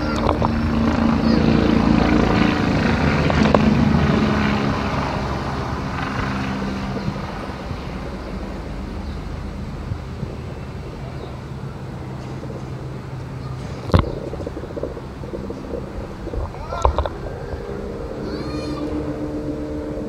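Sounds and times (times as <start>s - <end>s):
helicopter passing overhead: 0.0s - 20.0s.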